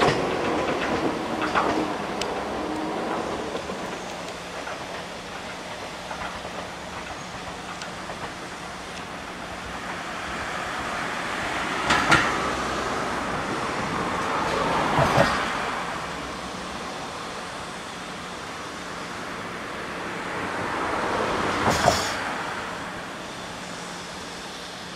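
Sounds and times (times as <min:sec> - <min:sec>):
electric train rumbling: 0:00.0 - 0:24.9.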